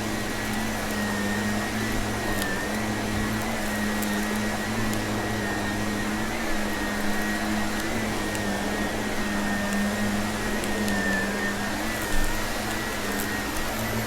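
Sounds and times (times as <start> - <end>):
vacuum cleaner whining: 0.0 - 14.0.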